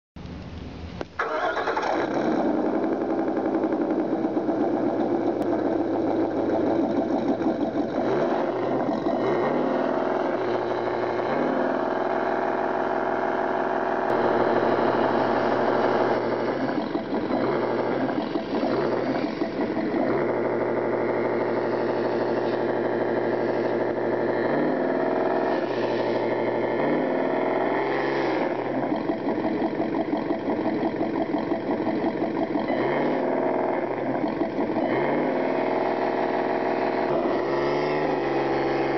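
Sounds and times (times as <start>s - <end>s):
truck engine revving: 1.2s - 38.9s.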